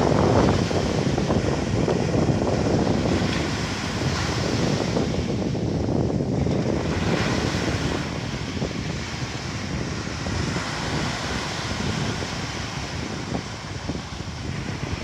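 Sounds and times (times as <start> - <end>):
waves washing on beach: 0.0 - 15.0
wind rumbling on microphone: 0.0 - 15.0.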